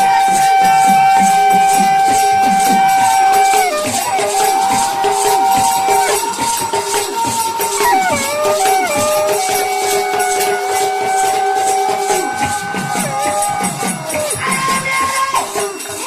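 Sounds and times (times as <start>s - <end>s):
folk devotional melody: 0.0s - 16.0s
jingling hand percussion: 0.0s - 16.0s.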